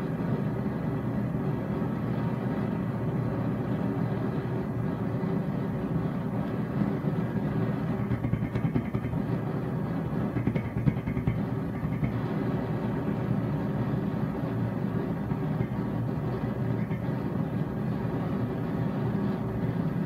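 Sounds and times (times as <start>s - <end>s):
torch flame rumbling: 0.0s - 20.0s.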